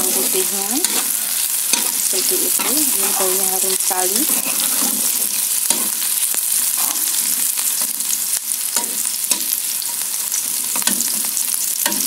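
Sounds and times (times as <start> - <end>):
food sizzling in hot oil: 0.0 - 12.0
metal spatula scraping a wok: 0.0 - 12.0.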